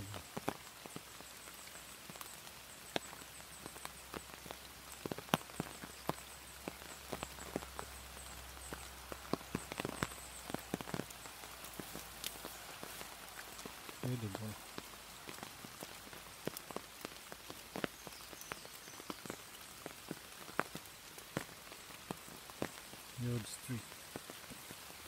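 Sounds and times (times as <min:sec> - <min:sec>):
rain hiss: 0:00.0 - 0:25.0
raindrops ticking on microphone: 0:00.0 - 0:25.0
river flowing: 0:00.0 - 0:25.0.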